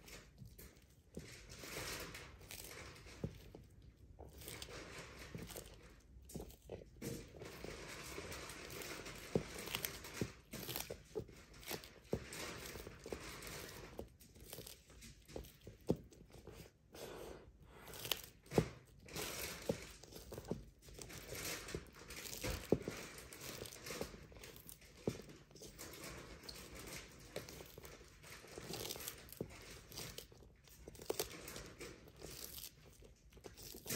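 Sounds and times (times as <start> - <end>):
tortoise eating with crunches: 0.0 - 33.9.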